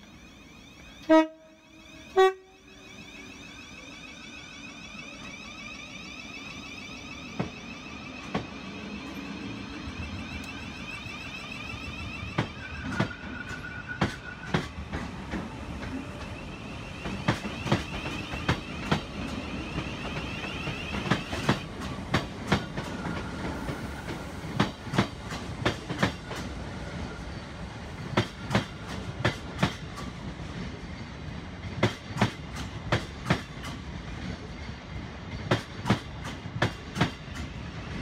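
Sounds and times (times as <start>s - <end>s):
high train whine: 0.0s - 38.0s
train rumble: 0.0s - 38.0s.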